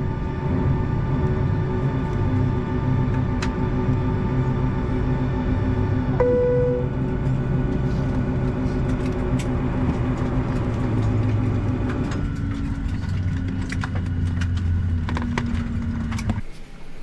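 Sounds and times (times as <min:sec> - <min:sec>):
aircraft cabin hum: 0:00.1 - 0:17.0.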